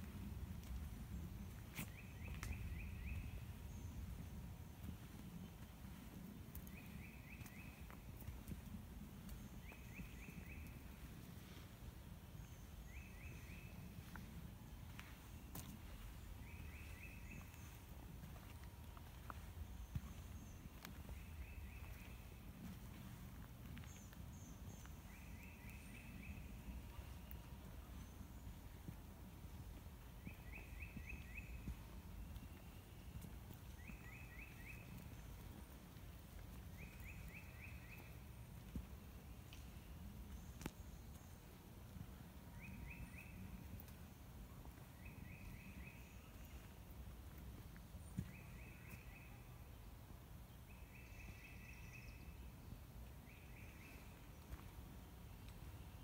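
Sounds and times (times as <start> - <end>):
low steady rumble: 0.0 - 56.0
songbird singing: 0.0 - 56.0.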